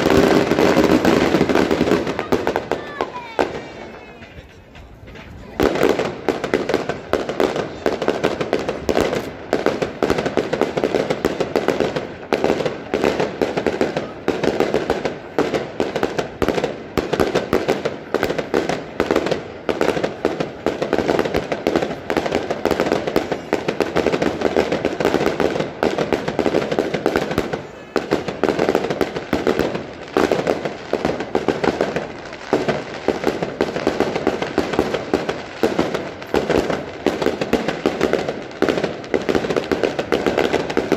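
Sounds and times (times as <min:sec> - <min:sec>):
firecracker bangs: 0:00.0 - 0:40.9.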